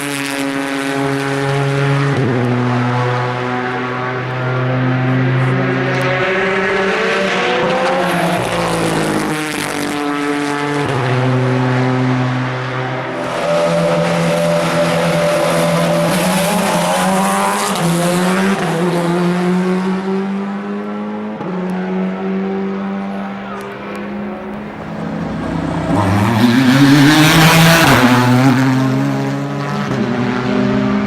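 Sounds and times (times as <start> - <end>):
race car engines: 0.0 - 31.0.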